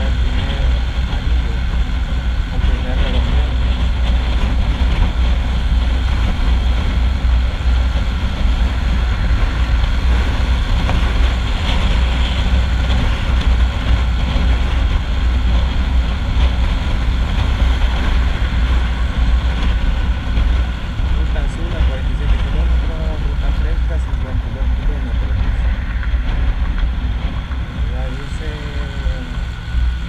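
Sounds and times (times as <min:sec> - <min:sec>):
motorcycle engine drone: 0:00.0 - 0:30.0
wind rumble on microphone: 0:00.0 - 0:30.0.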